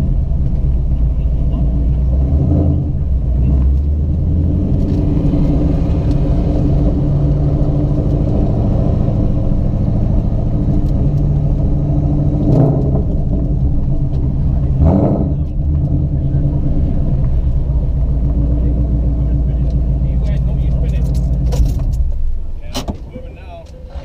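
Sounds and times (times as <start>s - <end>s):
car engine low rumble: 0.0s - 24.0s.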